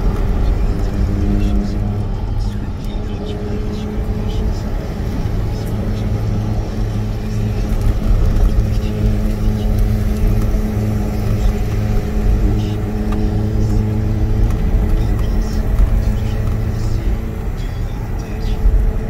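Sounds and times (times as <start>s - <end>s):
car engine drone: 0.0s - 19.0s
road rumble: 0.0s - 19.0s.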